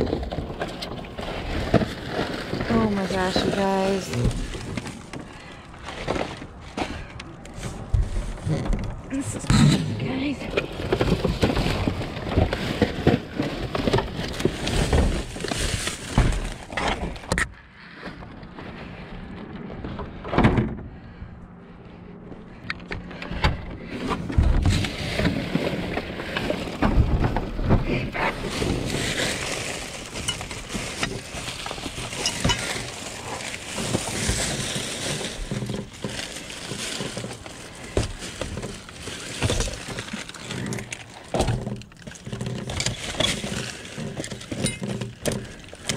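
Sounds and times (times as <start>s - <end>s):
plastic bags rustling and crinkling: 0.0s - 17.4s, 23.9s - 45.9s
knocks and crackles in dumpster: 0.0s - 17.5s, 23.2s - 45.9s.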